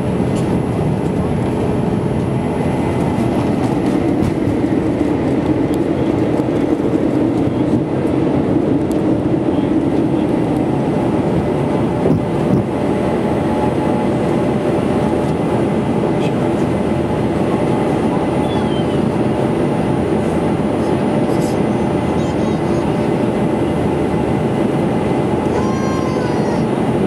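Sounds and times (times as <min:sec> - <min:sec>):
jet engines droning in cabin: 0:00.0 - 0:27.0.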